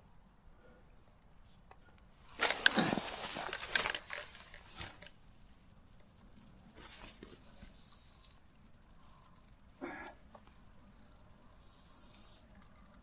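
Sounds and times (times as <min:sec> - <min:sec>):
faint rustling and handling noise: 0:01.1 - 0:13.0.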